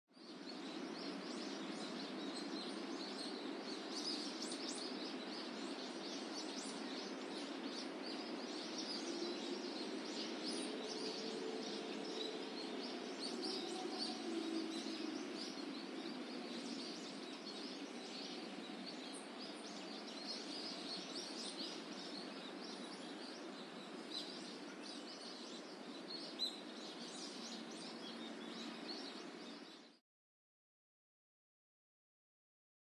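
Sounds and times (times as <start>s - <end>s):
small birds chirping: 0.1s - 30.0s
steady background hiss: 0.2s - 30.0s.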